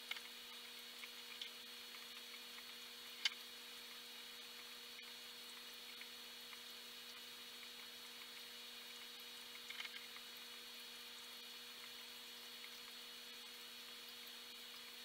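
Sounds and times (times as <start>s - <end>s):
faint electrical hum: 0.0s - 15.0s
low hiss: 0.0s - 15.0s.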